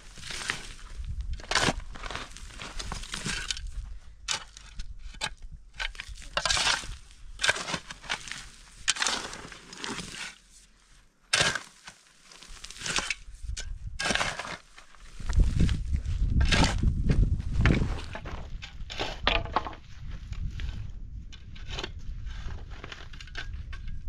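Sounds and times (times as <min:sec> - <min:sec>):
shovel digging into stony soil: 0:00.0 - 0:10.6, 0:11.3 - 0:19.3, 0:20.3 - 0:24.0.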